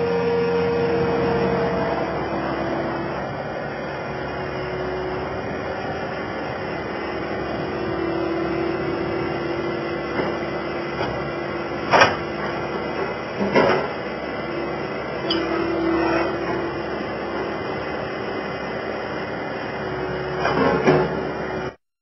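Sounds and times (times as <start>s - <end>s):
skid steer loader running: 0.0s - 21.8s.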